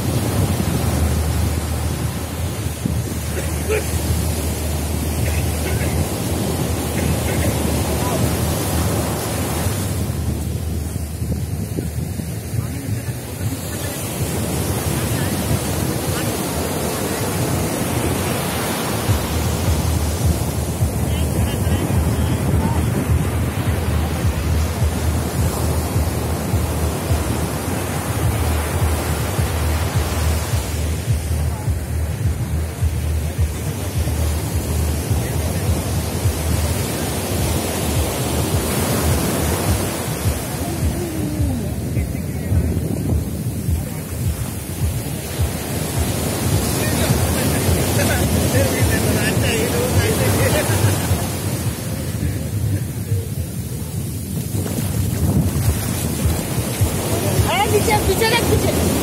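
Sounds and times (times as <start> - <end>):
waves washing on sandy shore: 0.0 - 59.0
wind rumbling on microphone: 0.0 - 59.0.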